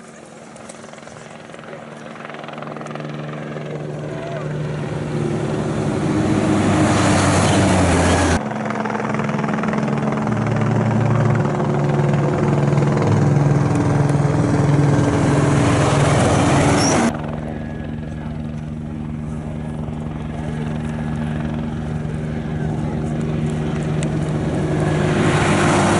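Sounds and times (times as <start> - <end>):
truck engines running hard: 0.0 - 25.9
heavy road noise: 3.7 - 25.9.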